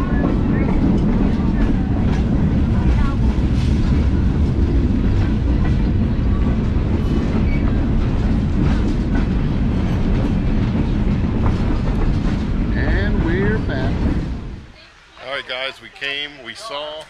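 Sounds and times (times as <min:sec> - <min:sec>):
wheels rumbling on rail: 0:00.0 - 0:15.1.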